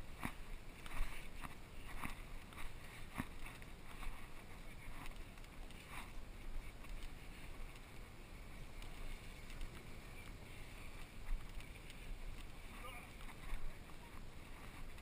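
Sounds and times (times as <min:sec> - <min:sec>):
faint clicks and knocks: 0:00.2 - 0:15.0.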